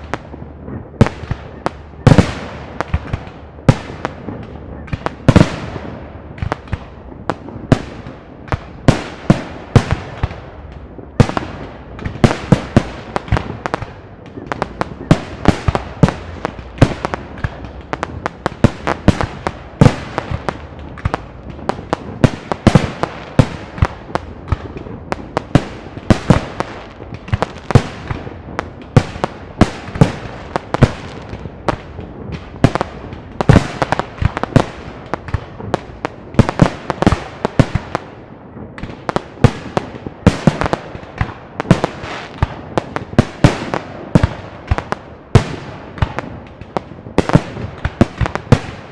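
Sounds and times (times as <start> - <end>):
firework crackling: 0.0 - 48.9.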